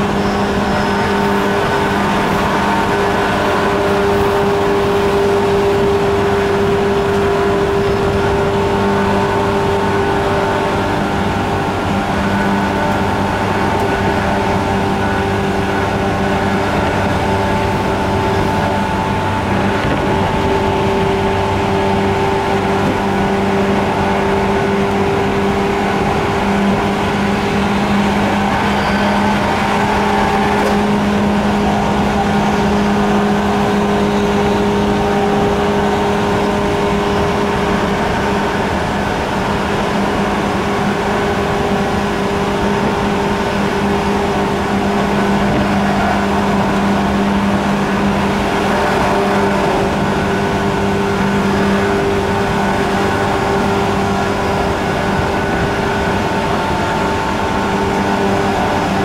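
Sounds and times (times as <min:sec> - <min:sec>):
train car running noise: 0:00.0 - 0:59.0
train traction motor hum: 0:00.0 - 0:59.0.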